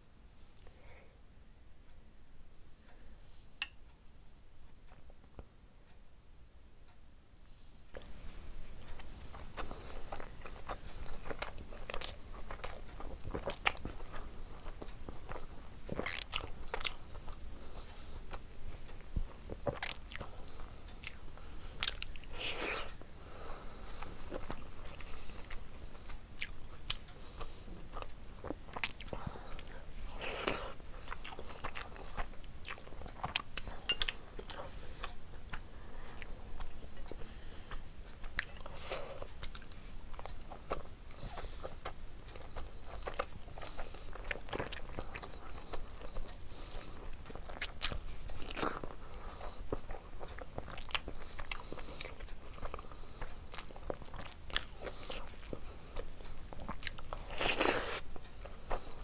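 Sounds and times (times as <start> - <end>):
wet chewing and smacking: 8.0 - 23.0, 23.9 - 59.0.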